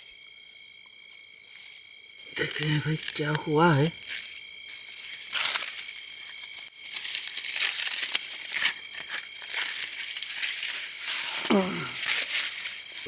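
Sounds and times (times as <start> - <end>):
wrapping crinkling and rustling: 1.1 - 13.0.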